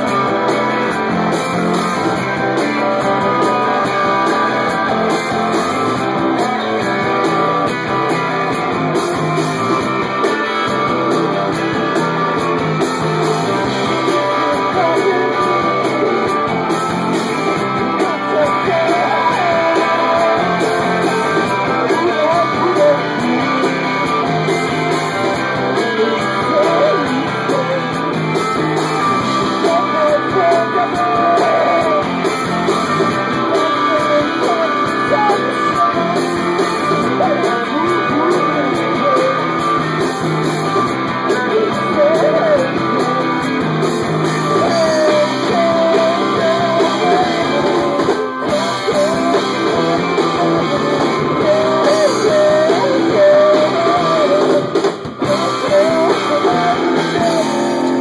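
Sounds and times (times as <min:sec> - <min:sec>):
guitar rock music: 0:00.0 - 0:58.0
person singing: 0:00.0 - 0:58.0.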